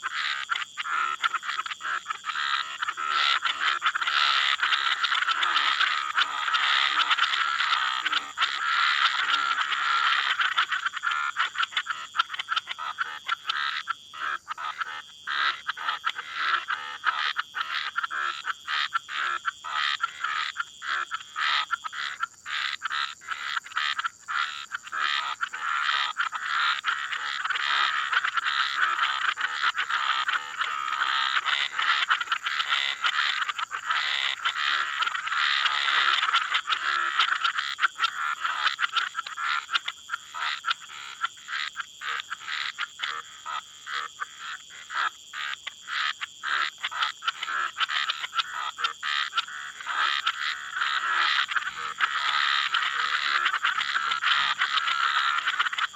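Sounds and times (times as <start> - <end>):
frogs and toads croaking: 0.0 - 55.9.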